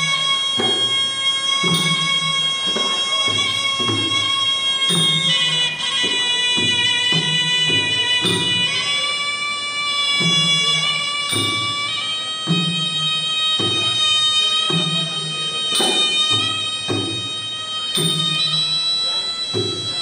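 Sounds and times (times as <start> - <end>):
drum strokes: 0.0 - 20.0
reed oboe melody: 0.0 - 20.0.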